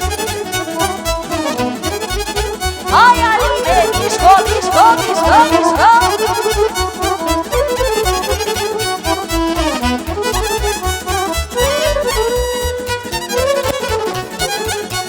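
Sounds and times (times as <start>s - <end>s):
folk party music: 0.0s - 15.0s.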